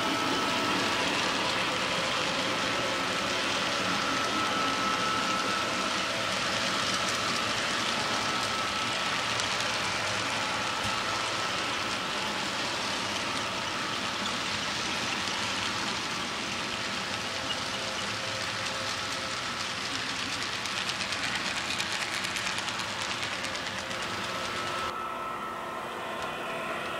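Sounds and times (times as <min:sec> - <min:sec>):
model train wheels clattering on rail: 0:01.1 - 0:24.9.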